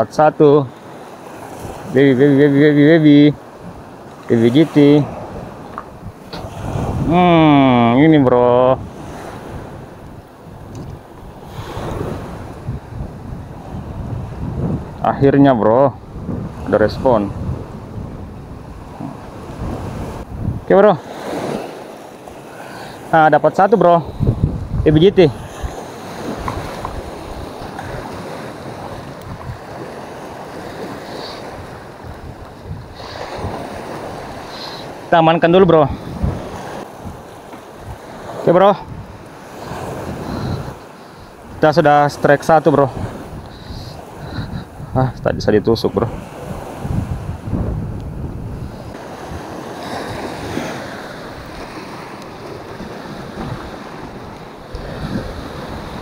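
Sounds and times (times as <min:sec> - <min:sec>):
waves washing on rocky shore: 0:00.0 - 0:45.2, 0:45.9 - 0:56.0
wind buffeting microphone: 0:03.4 - 0:23.1, 0:23.8 - 0:56.0.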